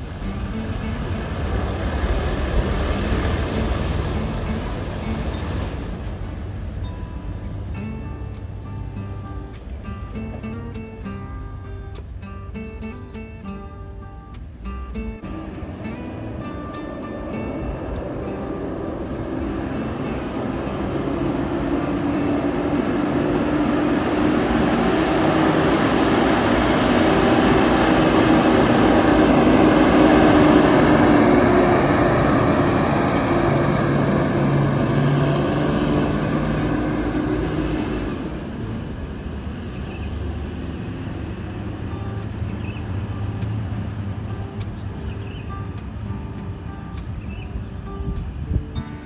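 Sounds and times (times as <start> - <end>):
bus driving past: 0.0 - 49.0.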